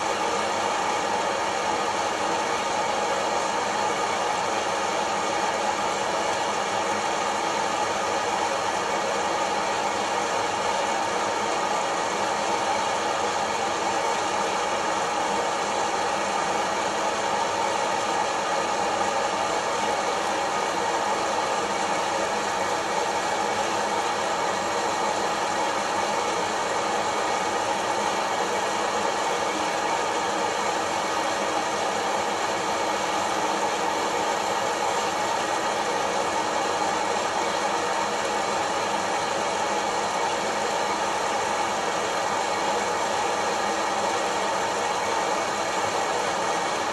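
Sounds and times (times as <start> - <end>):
hot-air fan blowing: 0.0 - 46.9.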